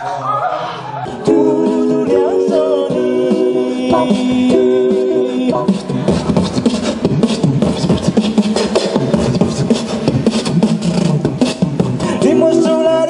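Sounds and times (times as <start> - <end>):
vocal percussive sounds: 1.1 - 13.0
a cappella voices singing chords: 1.2 - 13.0.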